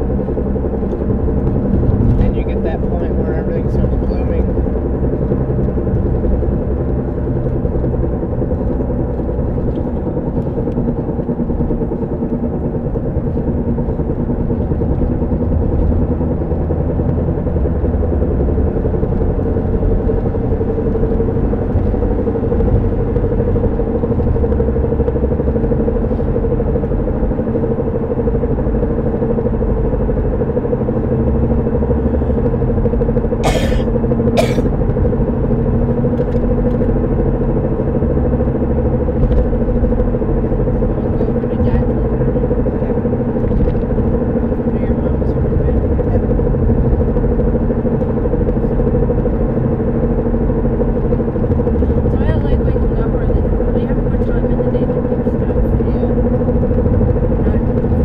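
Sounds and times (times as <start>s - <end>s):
droning hum: 0.0s - 58.0s
road rumble: 0.0s - 58.0s.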